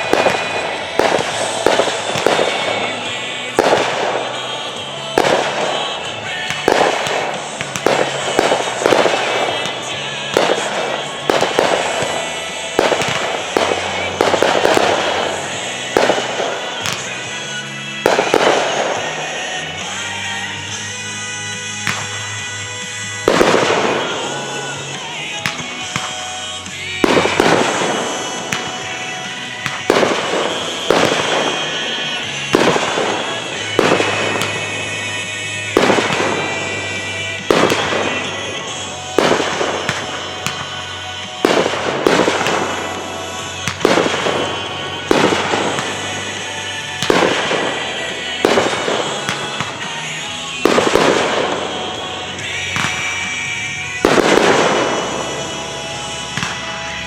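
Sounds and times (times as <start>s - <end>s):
fireworks bursting: 0.0s - 57.0s
music playing: 0.0s - 57.0s.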